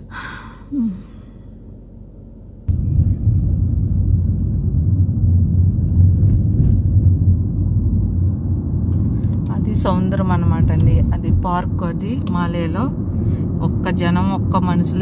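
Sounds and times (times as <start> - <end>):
faint low hum: 0.0 - 15.0
car cabin road rumble: 0.7 - 15.0.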